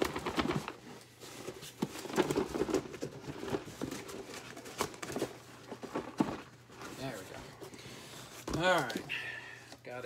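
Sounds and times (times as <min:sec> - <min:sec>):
cardboard scraping and rustling: 0:00.0 - 0:09.0.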